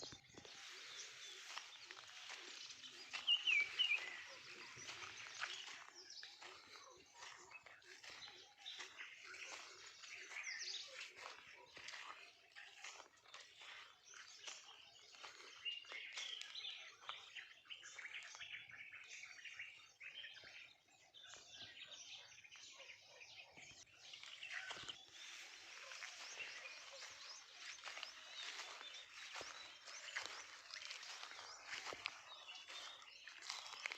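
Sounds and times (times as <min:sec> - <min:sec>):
birds chirping and calling: 0:00.0 - 0:33.9.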